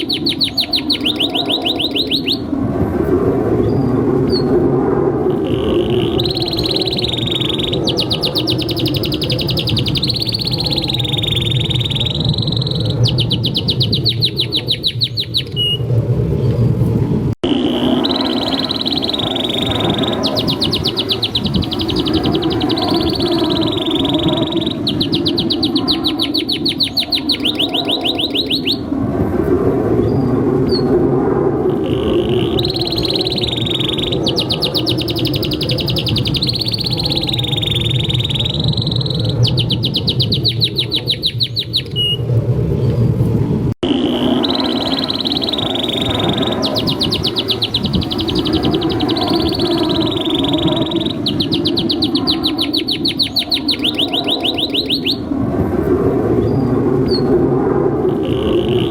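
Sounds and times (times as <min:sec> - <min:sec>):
canary singing trills: 0:00.0 - 0:02.5, 0:05.3 - 0:15.8, 0:17.4 - 0:28.9, 0:31.7 - 0:42.2, 0:43.8 - 0:55.3, 0:58.1 - 0:58.9.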